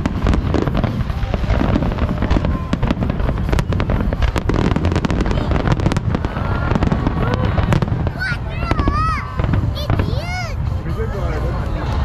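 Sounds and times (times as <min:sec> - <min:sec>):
fireworks cracks and bangs: 0:00.0 - 0:10.9
low rumble: 0:00.0 - 0:12.0.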